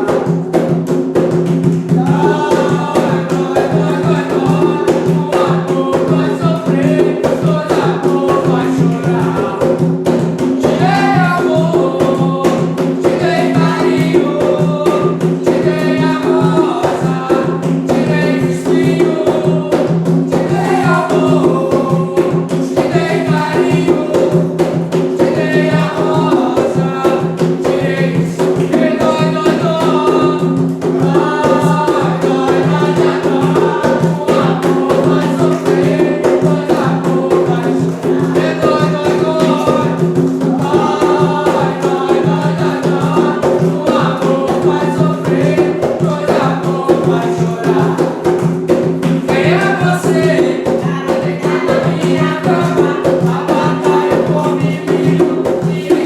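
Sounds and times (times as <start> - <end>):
drums: 0.0 - 56.0
group singing a chant: 0.0 - 56.0
rattling percussion: 0.0 - 56.0.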